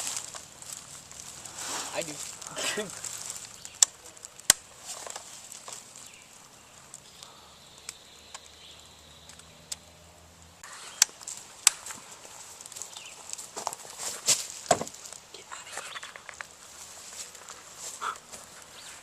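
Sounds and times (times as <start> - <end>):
faint ticking and crackling: 0.0 - 19.0.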